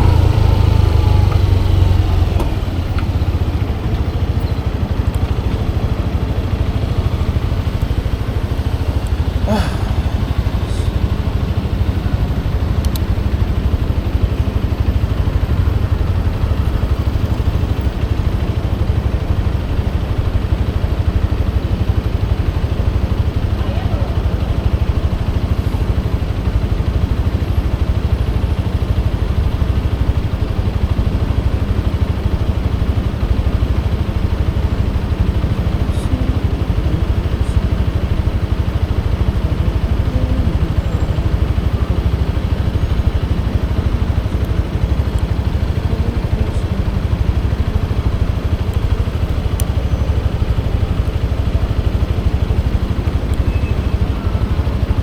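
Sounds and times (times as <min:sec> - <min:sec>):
motorcycle engine rumbling: 0:00.0 - 0:55.0
road noise: 0:00.0 - 0:55.0.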